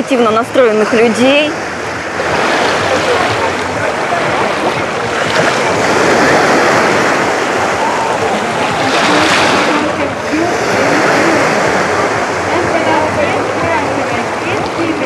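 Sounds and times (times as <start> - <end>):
small waves washing ashore: 0.0 - 15.0
faint voices of bathers: 2.2 - 15.0.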